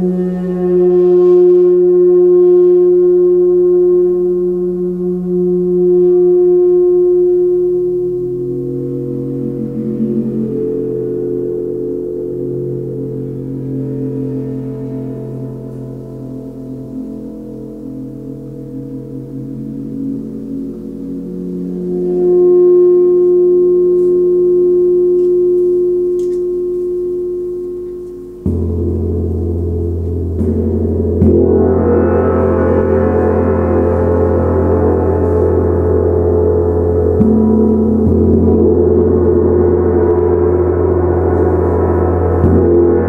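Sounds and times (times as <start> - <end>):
gong ringing: 0.0 - 43.0.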